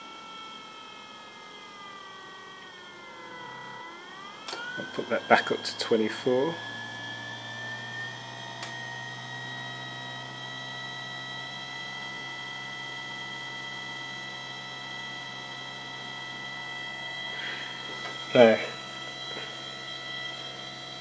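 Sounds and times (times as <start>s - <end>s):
electric motor whine and hum: 0.0s - 21.0s.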